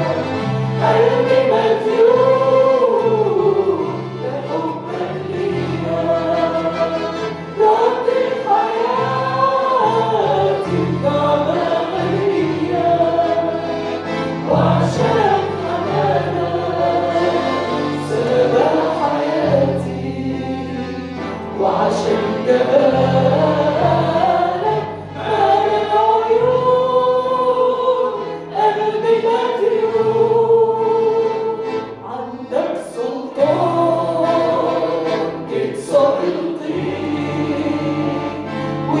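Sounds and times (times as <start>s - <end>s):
low accompaniment chords: 0.0s - 39.0s
voices singing worship song: 0.0s - 39.0s.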